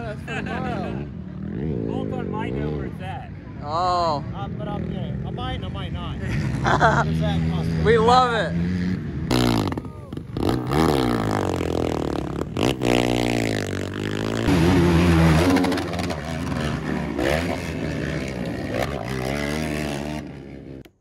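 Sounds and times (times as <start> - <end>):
atv engines revving: 0.0 - 21.0.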